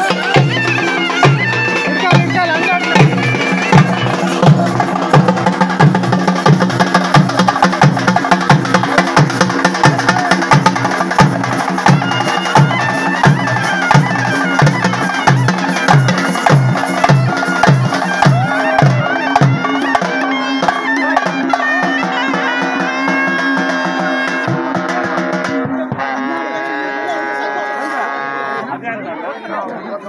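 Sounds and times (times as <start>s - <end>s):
drums beating: 0.0s - 27.5s
reedy wind instrument melody: 0.0s - 29.6s.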